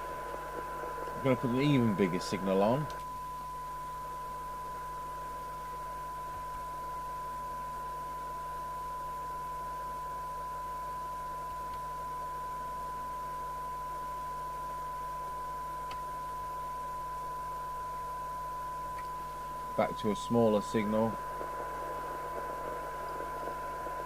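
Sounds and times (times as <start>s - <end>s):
steady test tone from speaker: 0.0s - 24.0s.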